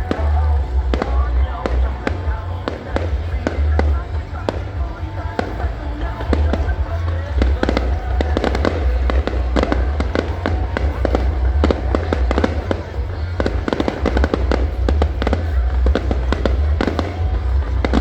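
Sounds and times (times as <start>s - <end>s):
fireworks bangs and crackling: 0.0s - 18.0s
heavy low rumble: 0.0s - 18.0s.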